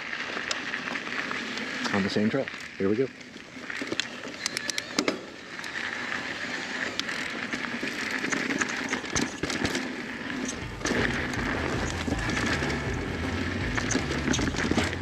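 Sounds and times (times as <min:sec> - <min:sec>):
bike clicks and rattles: 0:00.0 - 0:15.0
bike tyres on dirt and gravel: 0:00.0 - 0:15.0.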